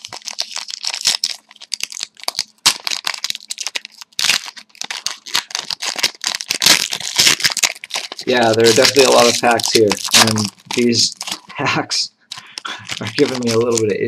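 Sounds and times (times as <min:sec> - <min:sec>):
card pack wrappers tearing and crinkling: 0:00.0 - 0:14.0.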